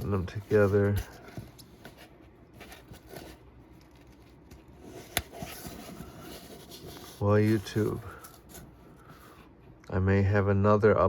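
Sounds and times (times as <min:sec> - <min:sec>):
faint handling sounds: 0:00.0 - 0:09.9.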